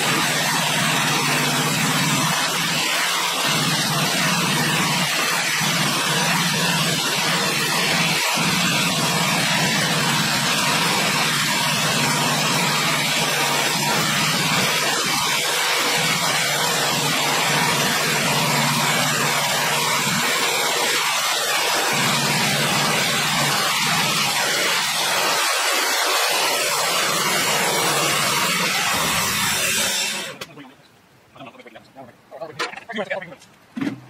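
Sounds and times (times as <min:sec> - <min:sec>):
sawmill machine running: 0:00.0 - 0:30.5.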